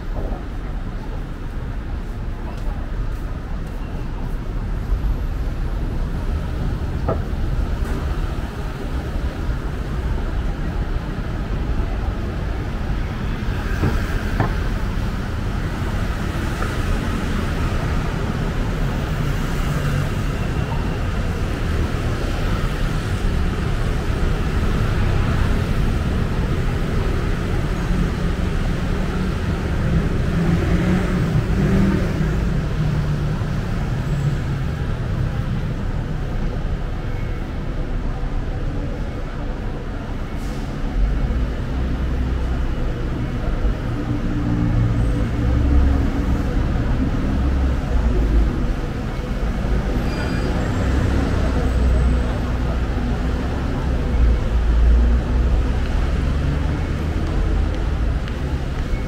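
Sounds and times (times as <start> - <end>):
car engines and tyres passing: 0.0 - 59.0.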